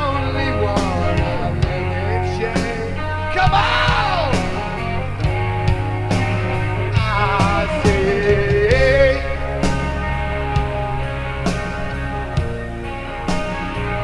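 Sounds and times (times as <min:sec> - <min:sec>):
lead melody bending: 0:00.0 - 0:14.0
rock band playing slow song: 0:00.0 - 0:14.0.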